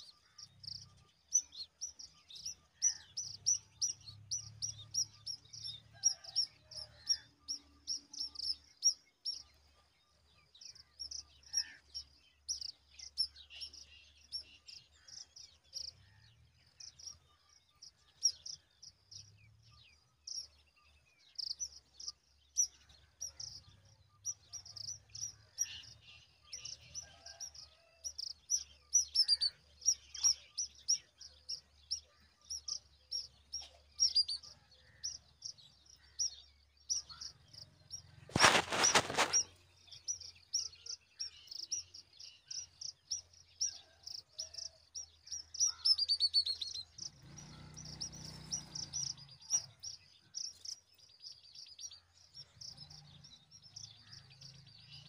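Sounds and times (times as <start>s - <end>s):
small bird chirping: 0.0s - 9.7s, 10.5s - 55.0s.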